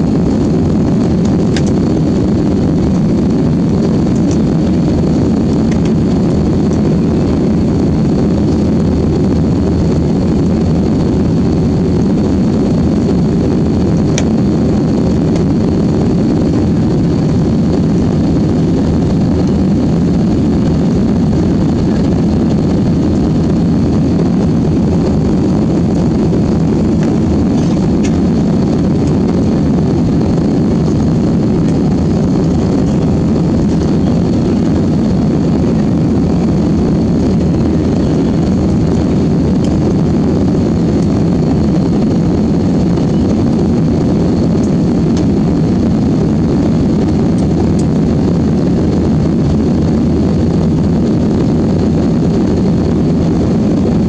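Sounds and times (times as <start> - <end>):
faint high whine: 0.0 - 54.0
jet cabin engine rumble: 0.0 - 54.0.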